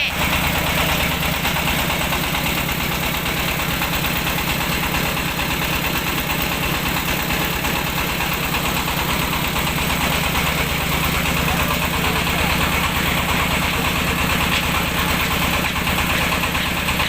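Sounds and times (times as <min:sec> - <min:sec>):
milling machine engine running: 0:00.0 - 0:17.0.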